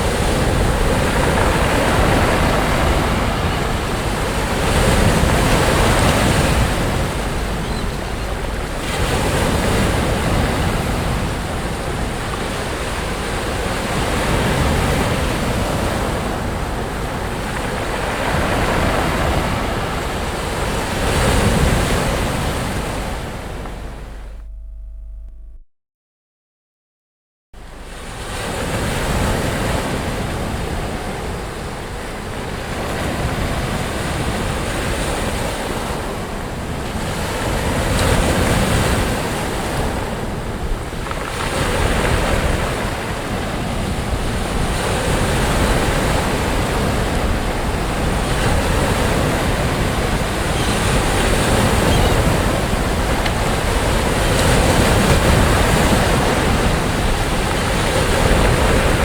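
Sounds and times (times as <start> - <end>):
sea waves breaking on shore: 0.0 - 24.4, 27.6 - 59.0
wind rumbling on microphone: 0.0 - 24.7, 27.6 - 59.0.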